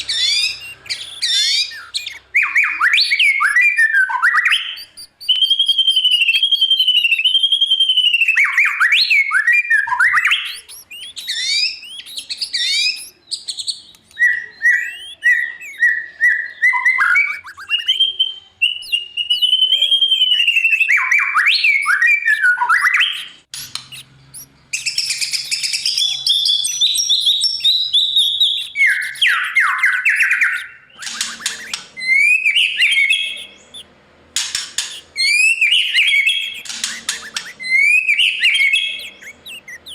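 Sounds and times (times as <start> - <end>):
bird singing whistles and trills: 0.0 - 33.9, 34.5 - 39.9.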